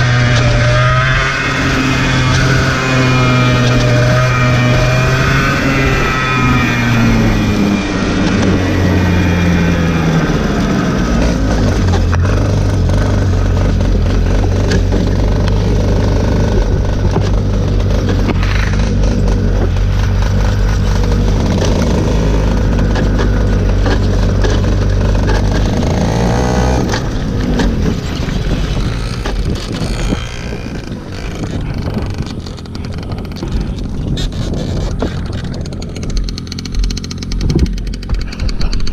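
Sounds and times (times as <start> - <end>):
racing kart engine idling: 0.0 - 38.9.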